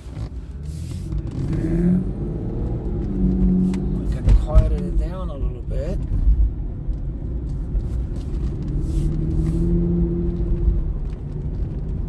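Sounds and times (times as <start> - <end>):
car engine rumble from inside: 0.0 - 12.0
road noise: 0.0 - 12.0.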